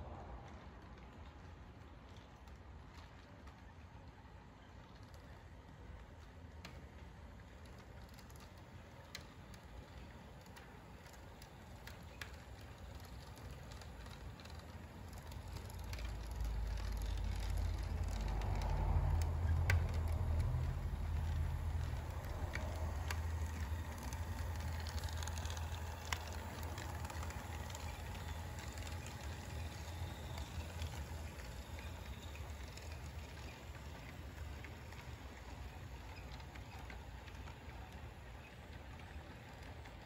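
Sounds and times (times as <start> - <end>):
model train motor and wheel hum: 0.0 - 40.0.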